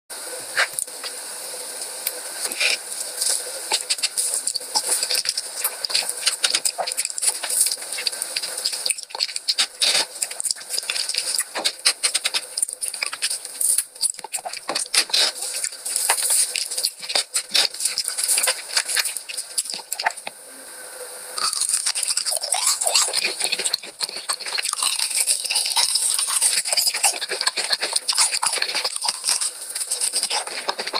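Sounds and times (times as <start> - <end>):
food crunching while chewed: 2.0 - 20.3, 21.4 - 30.9.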